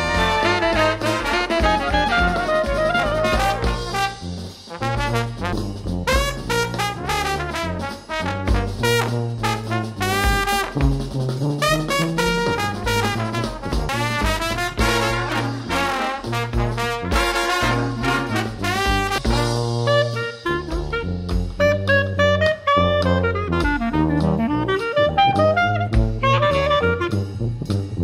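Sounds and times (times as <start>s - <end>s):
swing jazz music with brass: 0.0s - 28.0s.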